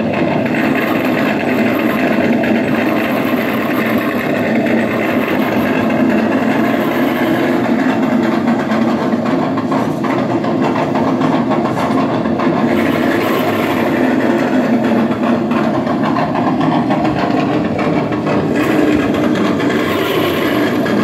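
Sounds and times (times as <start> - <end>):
engine sound through small speaker: 0.0 - 21.0.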